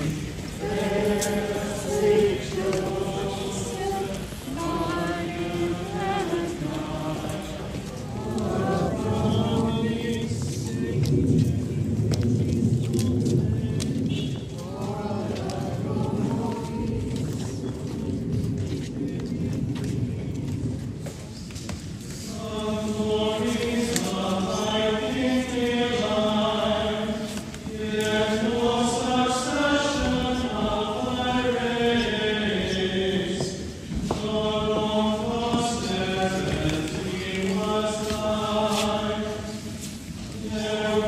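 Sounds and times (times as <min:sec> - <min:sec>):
person singing a slow chant: 0:00.0 - 0:18.2, 0:22.0 - 0:41.0.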